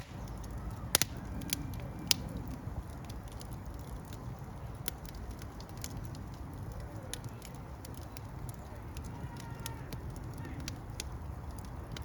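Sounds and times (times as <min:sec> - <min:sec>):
fire crackling: 0:00.0 - 0:12.0.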